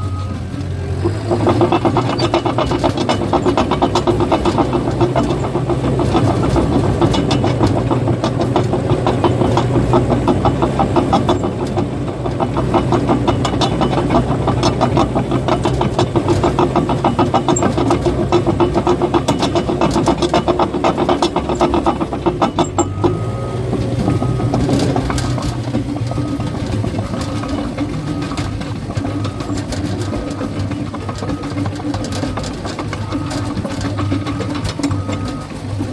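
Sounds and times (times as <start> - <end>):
bulldozer diesel engine running: 0.0 - 35.9
steel tracks rattling: 0.0 - 35.9.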